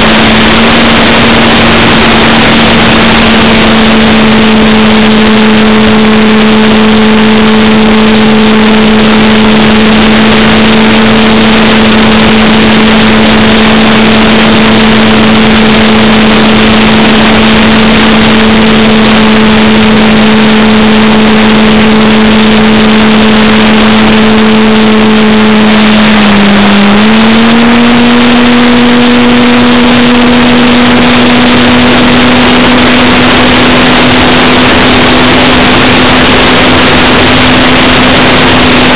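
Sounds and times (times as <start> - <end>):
airflow rushing: 0.0 - 38.9
electric propeller motor buzzing: 0.0 - 38.9.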